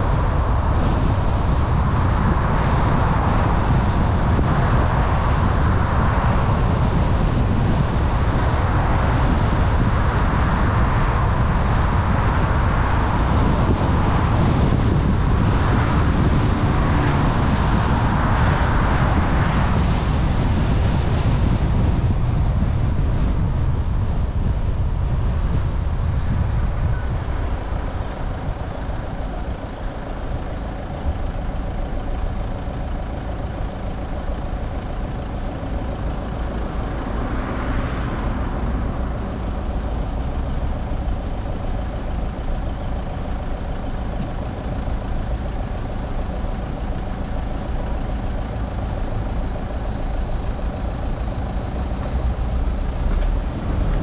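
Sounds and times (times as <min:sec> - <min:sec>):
road tyre and engine rumble: 0:00.0 - 0:54.0.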